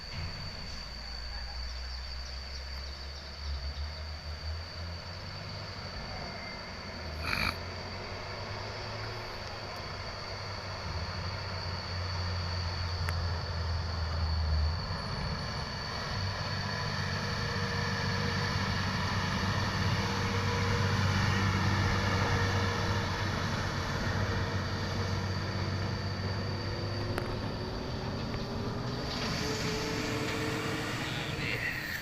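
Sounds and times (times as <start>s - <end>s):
truck engine rumble: 1.7s - 32.0s
brakes squealing: 5.1s - 32.0s.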